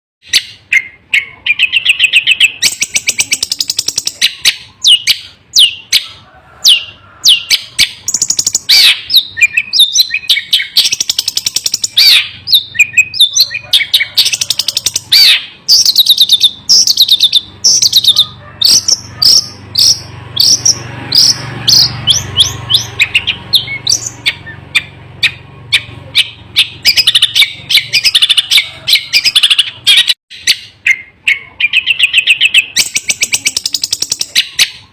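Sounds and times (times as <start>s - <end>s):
bird chattering and whistling: 0.2s - 34.9s.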